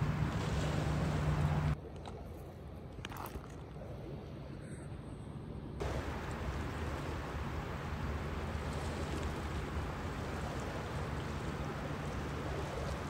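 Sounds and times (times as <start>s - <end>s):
small waves at the shore: 0.0s - 13.0s
wind: 0.0s - 13.0s.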